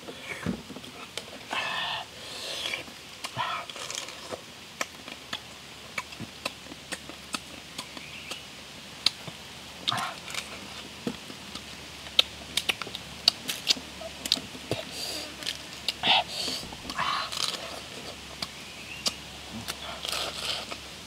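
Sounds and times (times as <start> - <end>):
person chewing: 1.6 - 8.4, 9.8 - 20.9.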